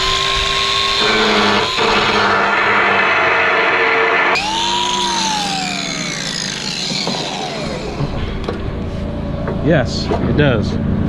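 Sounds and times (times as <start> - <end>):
angle grinder grinding wood: 0.0 - 9.2.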